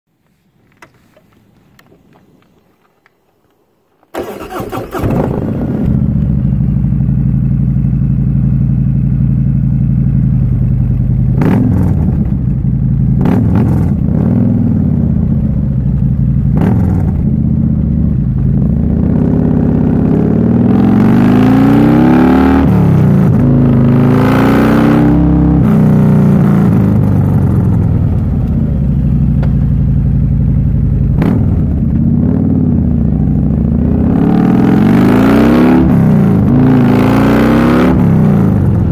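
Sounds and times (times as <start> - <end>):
motorcycle engine revving: 4.2 - 38.9.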